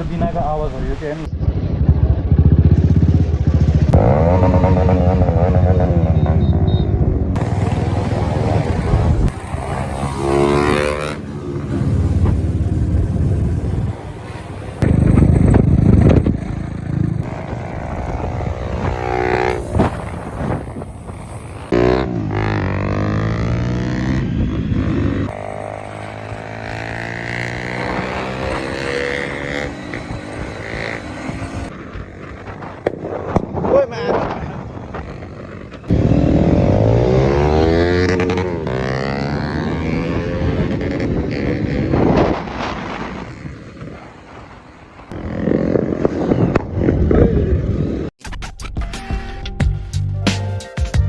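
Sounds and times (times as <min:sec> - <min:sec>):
motorcycle engine revving: 0:01.3 - 0:32.8, 0:34.7 - 0:48.1.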